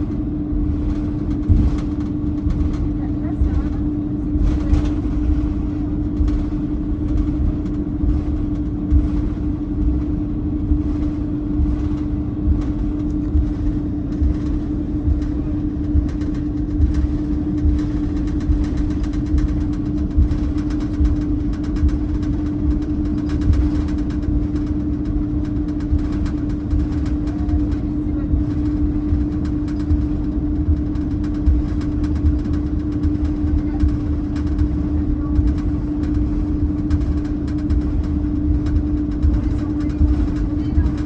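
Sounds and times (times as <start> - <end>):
airliner cabin engine drone: 0.0 - 41.0
low rumble: 0.0 - 41.0.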